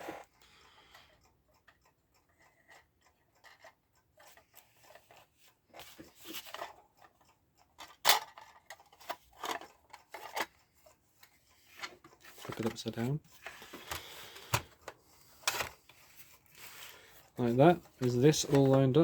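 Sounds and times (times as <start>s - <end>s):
clock parts clicking and scraping: 0.0s - 19.0s.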